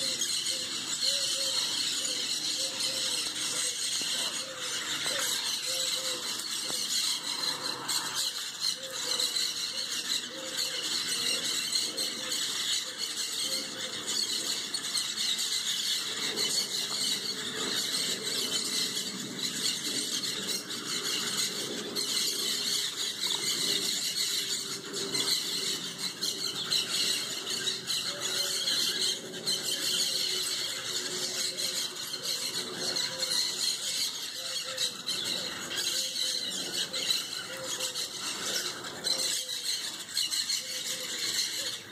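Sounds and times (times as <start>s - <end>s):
flock of birds screeching: 0.0s - 41.9s.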